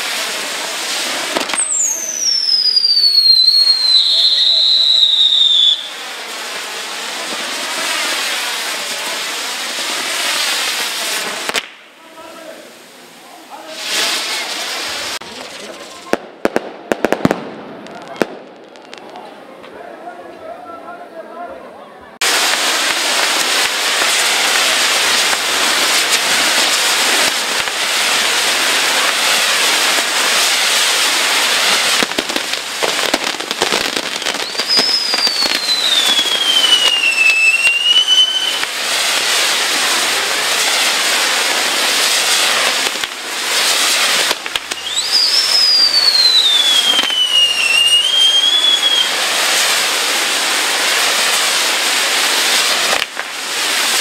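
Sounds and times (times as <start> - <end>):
falling firework whistle: 0.0 - 11.9, 22.2 - 54.0
fireworks crackling and fizzing: 0.0 - 21.0, 22.1 - 54.0.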